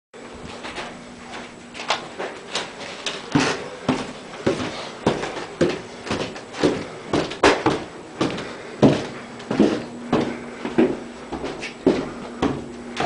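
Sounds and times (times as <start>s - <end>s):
footsteps on stairs: 0.5s - 13.0s.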